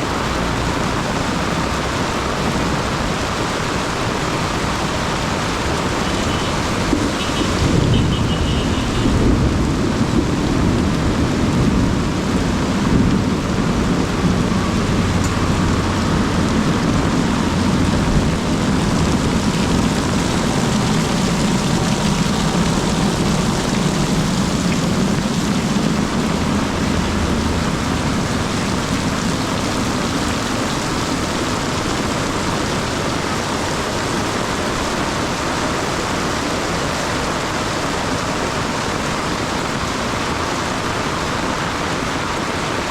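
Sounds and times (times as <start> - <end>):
pouring rain hiss: 0.0 - 42.9.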